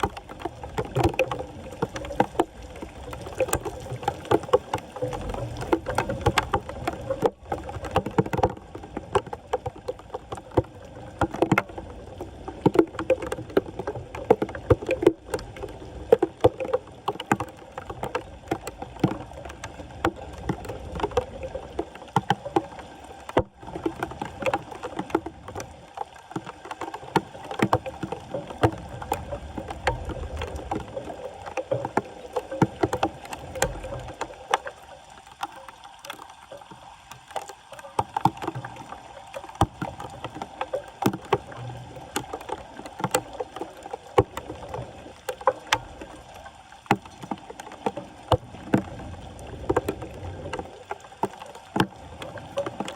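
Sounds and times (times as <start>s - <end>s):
floodwater sloshing and splashing: 0.0s - 52.9s.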